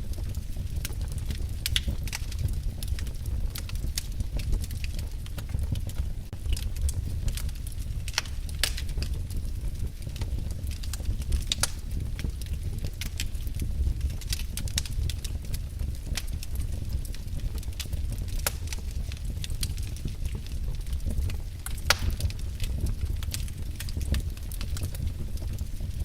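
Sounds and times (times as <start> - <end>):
fire crackling and popping: 0.0 - 26.0
low rumble of burning fire: 0.0 - 26.0.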